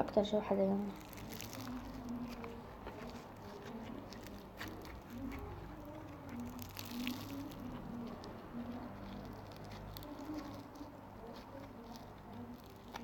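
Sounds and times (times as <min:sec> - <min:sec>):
slime squishing and popping: 0:00.8 - 0:13.0.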